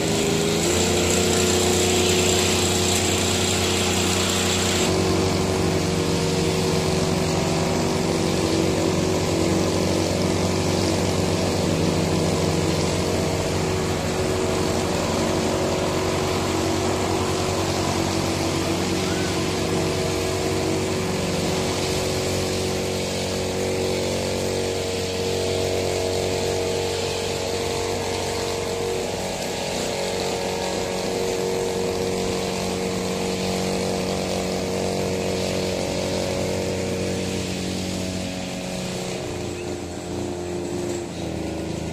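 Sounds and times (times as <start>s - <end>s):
brush cutter engine: 0.0s - 41.9s
lawn mower engine cutting grass: 0.0s - 41.9s.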